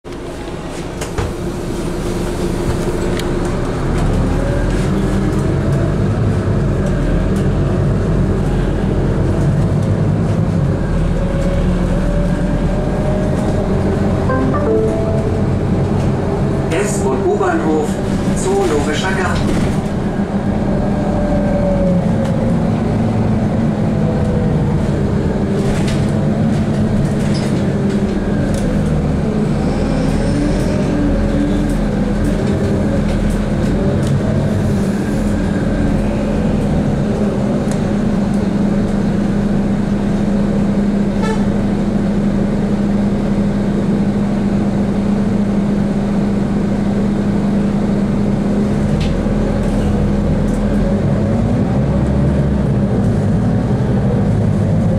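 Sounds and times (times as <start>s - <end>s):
bus drivetrain hum: 0.1s - 54.9s
road rumble: 0.1s - 54.9s.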